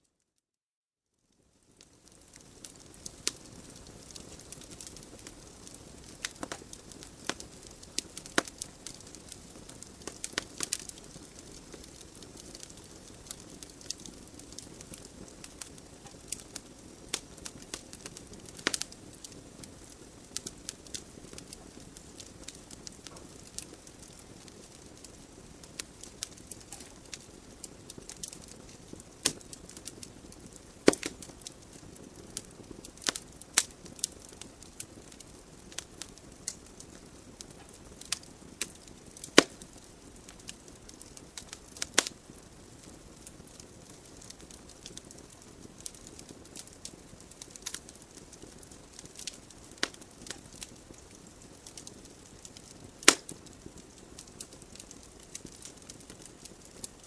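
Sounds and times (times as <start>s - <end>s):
soft hiss of flames: 1.1s - 57.0s
burning logs crackling and popping: 1.3s - 57.0s.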